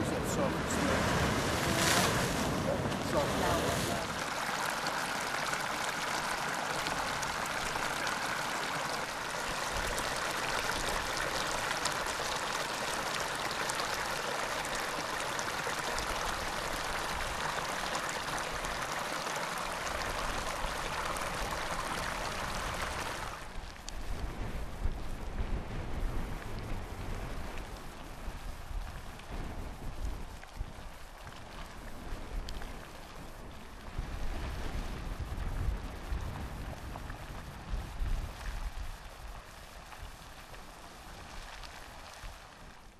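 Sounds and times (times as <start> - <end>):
fine water drips: 0.0 - 25.0, 26.0 - 42.9
water trickling over rock ledge: 0.0 - 25.0, 26.4 - 42.9.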